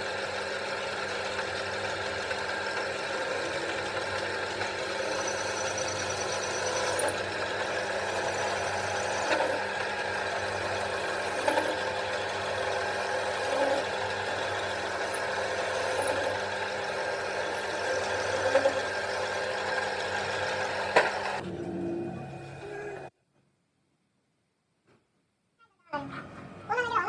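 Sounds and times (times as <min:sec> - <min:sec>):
machine humming: 0:00.0 - 0:23.1.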